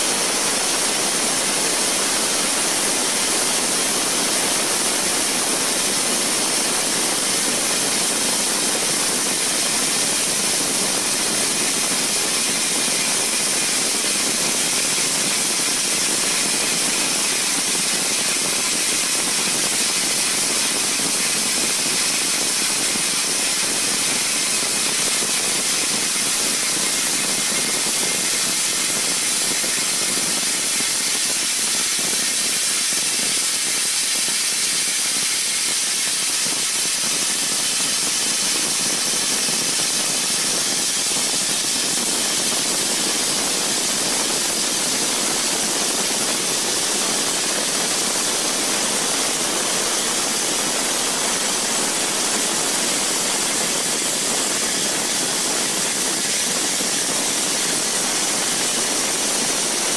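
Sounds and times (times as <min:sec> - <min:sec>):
high-pitched waterjet hiss: 0:00.0 - 0:59.9.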